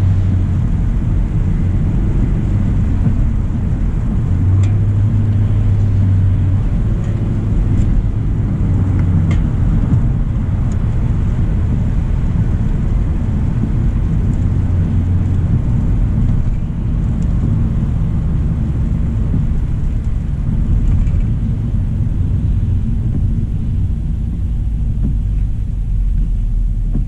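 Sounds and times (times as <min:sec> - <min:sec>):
car tyre rumble on road: 0:00.0 - 0:27.0.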